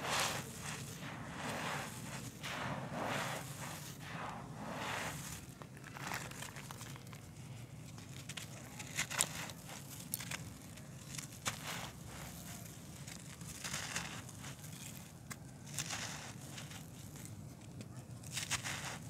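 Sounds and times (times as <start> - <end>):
soil trickling: 0.0 - 17.7
dry dirt crumbling: 0.0 - 19.0.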